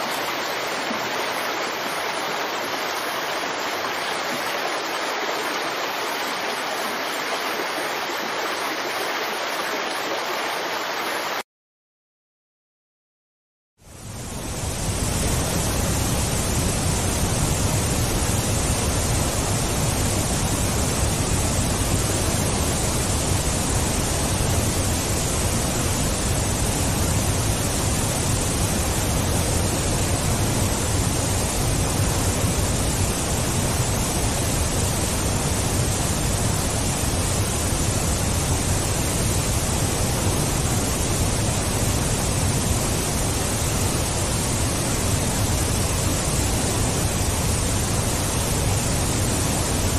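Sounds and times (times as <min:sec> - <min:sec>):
steady rushing noise: 0:00.0 - 0:11.4, 0:13.8 - 0:49.9.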